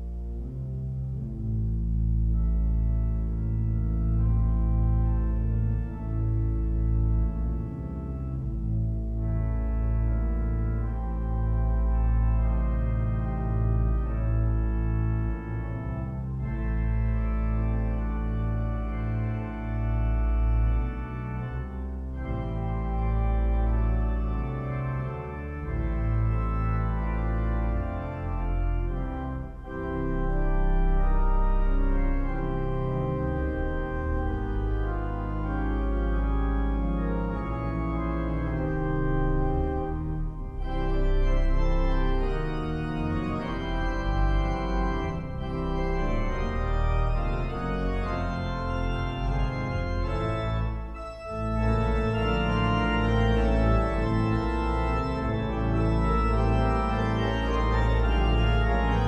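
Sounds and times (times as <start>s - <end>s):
pipe organ playing full chords: 0.0s - 59.0s.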